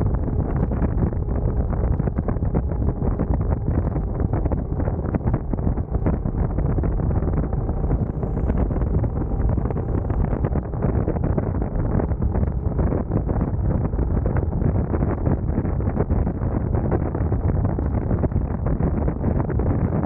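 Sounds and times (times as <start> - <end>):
wind buffeting on microphone: 0.0 - 20.0.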